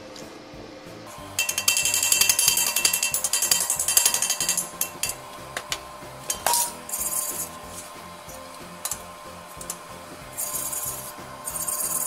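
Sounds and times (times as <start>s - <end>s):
welding arc crackling: 1.1s - 12.0s.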